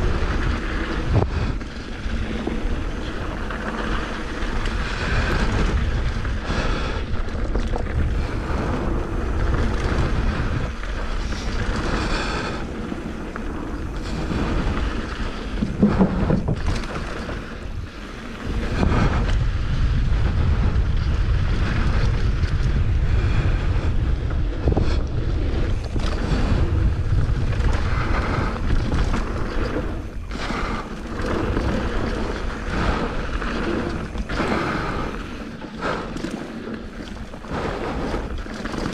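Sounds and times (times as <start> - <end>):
bike rattling: 0.0 - 38.9
tyres rumbling on dirt trail: 0.0 - 38.9
wind buffeting microphone: 0.0 - 38.9.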